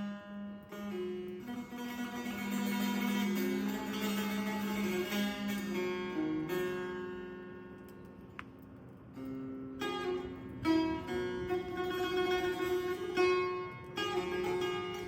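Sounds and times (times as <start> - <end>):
plucked lute melody: 0.0 - 15.0.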